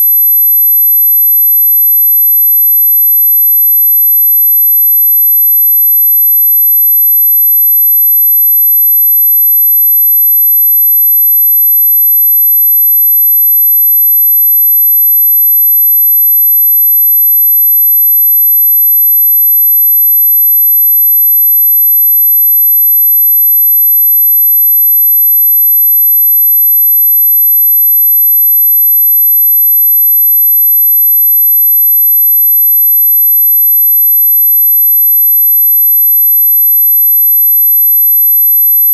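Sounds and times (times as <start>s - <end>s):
high-pitched sine tone: 0.0s - 38.9s.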